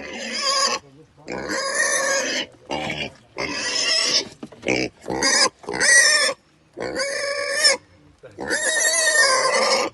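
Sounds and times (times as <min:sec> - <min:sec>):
pigs squealing: 0:00.0 - 0:07.8, 0:08.4 - 0:09.9.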